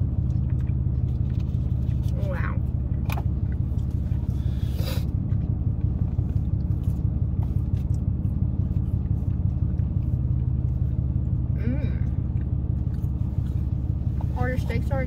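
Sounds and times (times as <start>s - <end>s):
car engine idling rumble: 0.0s - 15.0s.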